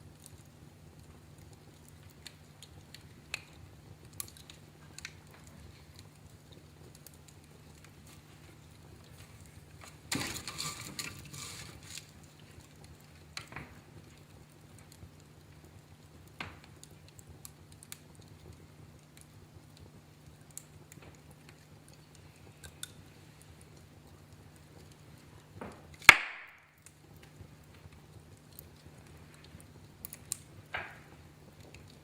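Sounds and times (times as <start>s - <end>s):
fire snapping and popping: 0.0s - 32.0s
wood fire crackling: 0.0s - 32.0s.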